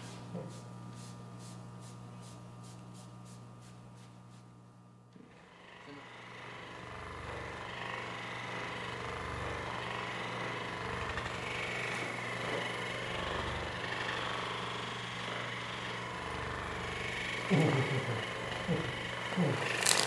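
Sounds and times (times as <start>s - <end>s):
massage gun running: 0.0s - 20.0s.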